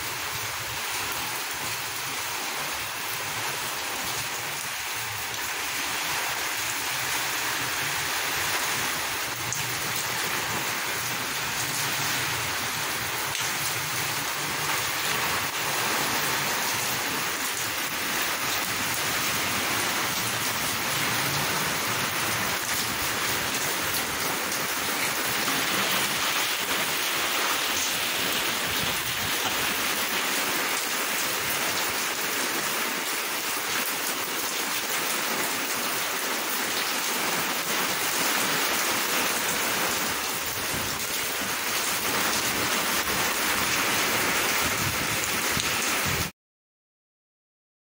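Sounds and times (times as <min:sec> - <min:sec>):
steady rain patter: 0:00.0 - 0:46.3.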